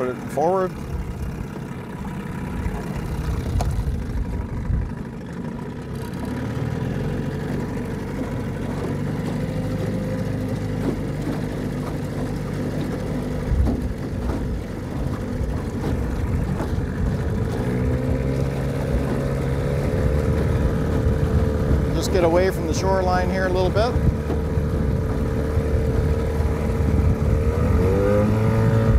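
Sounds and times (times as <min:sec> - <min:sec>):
outboard motor running: 0:00.0 - 0:28.9.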